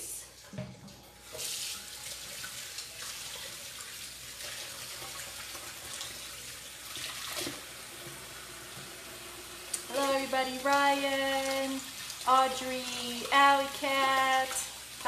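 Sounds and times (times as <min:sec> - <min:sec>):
tap water running into sink: 0:00.4 - 0:15.0.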